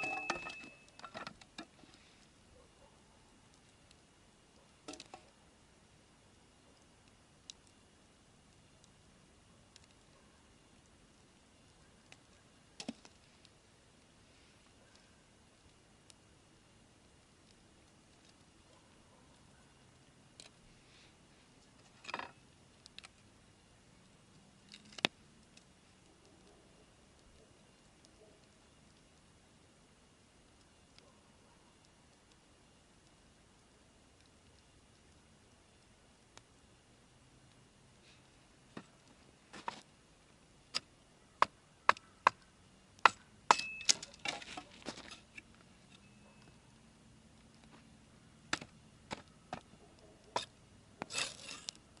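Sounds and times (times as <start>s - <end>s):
campfire crackling: 0.0s - 52.0s.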